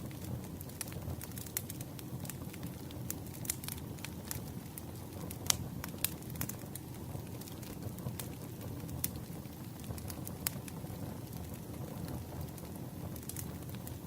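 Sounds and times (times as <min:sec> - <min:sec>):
burning wood crackling and popping: 0:00.0 - 0:14.0
campfire burning: 0:00.0 - 0:14.0.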